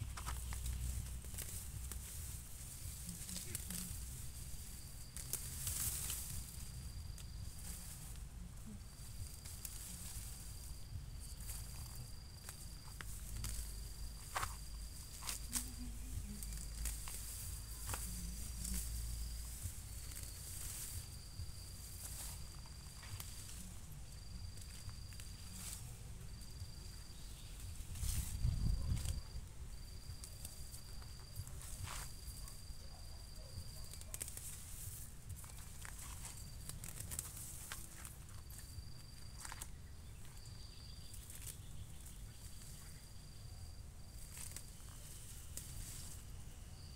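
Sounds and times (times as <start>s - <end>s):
roots tearing from soil: 0.0s - 32.4s, 33.6s - 42.7s, 43.7s - 46.4s
weeds snapping: 0.0s - 46.5s
high insect trill: 0.0s - 46.9s
rustling foliage: 0.0s - 46.9s.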